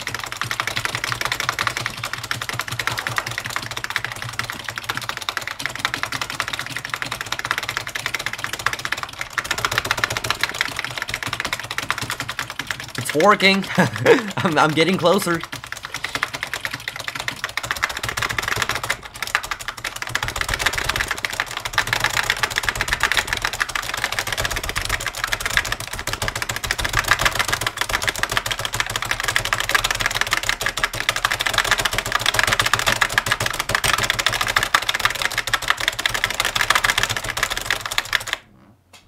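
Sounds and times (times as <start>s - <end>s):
computer keyboard keys clattering: 0.0s - 38.4s.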